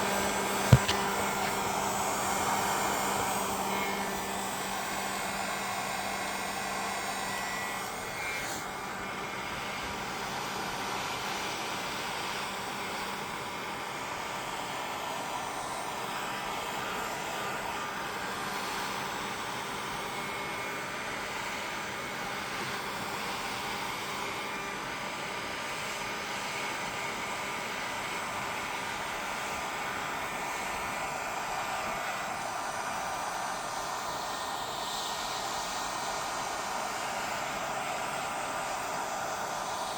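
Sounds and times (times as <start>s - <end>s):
hot-air blower running: 0.0s - 39.9s.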